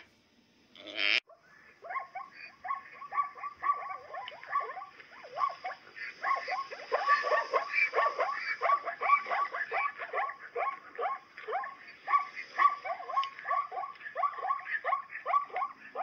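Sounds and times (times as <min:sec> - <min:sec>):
zebras barking: 0:00.8 - 0:16.0.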